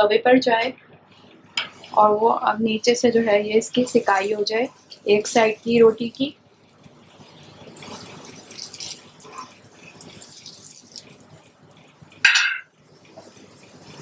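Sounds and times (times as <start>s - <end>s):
oil sizzling and crackling: 1.1s - 14.0s.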